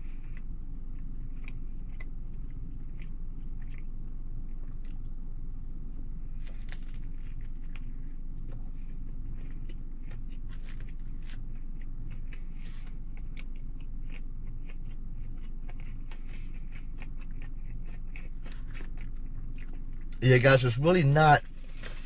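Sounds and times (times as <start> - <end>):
steady low hum: 0.0 - 22.0
person biting and chewing: 0.2 - 20.2, 21.4 - 22.0.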